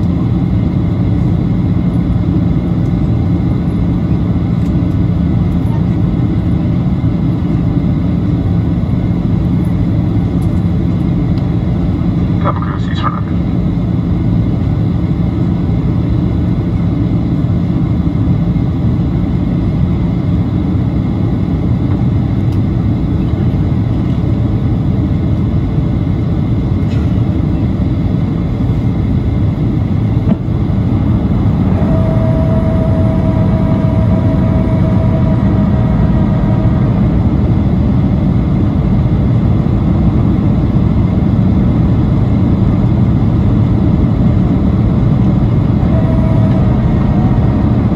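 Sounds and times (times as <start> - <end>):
airplane cabin engine noise: 0.0 - 47.9
steady whine: 0.0 - 47.9.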